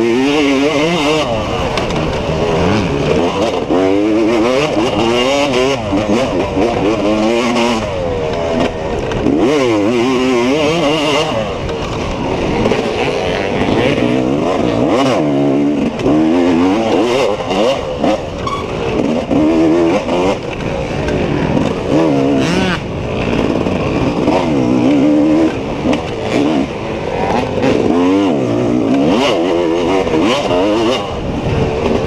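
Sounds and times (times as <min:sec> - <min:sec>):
race engine revving: 0:00.0 - 0:32.0.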